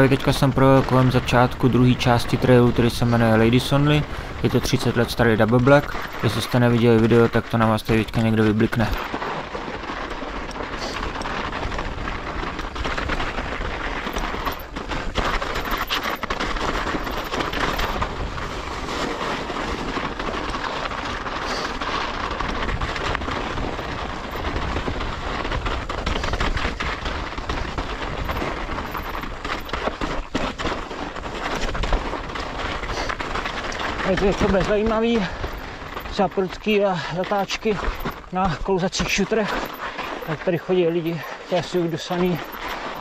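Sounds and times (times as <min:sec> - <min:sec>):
bike rattling over rough ground: 0:00.0 - 0:43.0
tyres through snow: 0:00.0 - 0:43.0.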